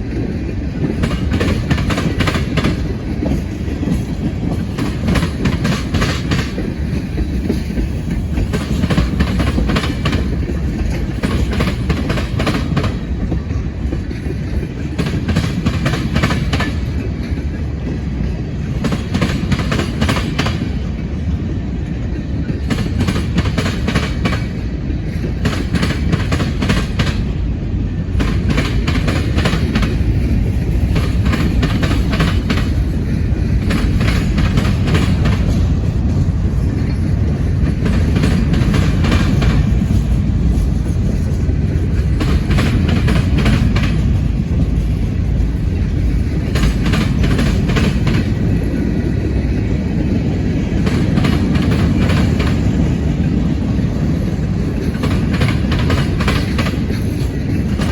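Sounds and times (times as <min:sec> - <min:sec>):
freight train low rumble: 0:00.0 - 0:57.9
train wheel clicks: 0:00.0 - 0:57.9.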